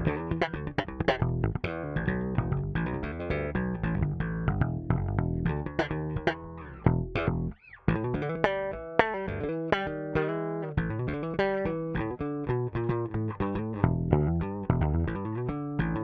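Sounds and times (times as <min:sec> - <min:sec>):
electric bass plucked notes: 0:00.0 - 0:16.0.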